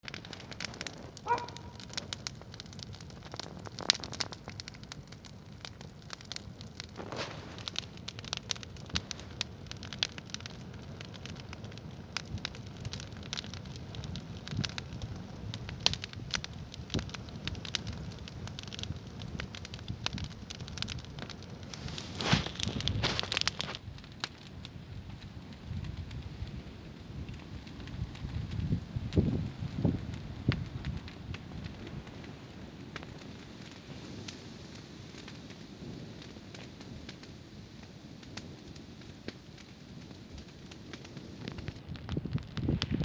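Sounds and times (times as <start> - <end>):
campfire crackling and popping: 0.0 - 43.0
low rush of flames: 0.0 - 43.0.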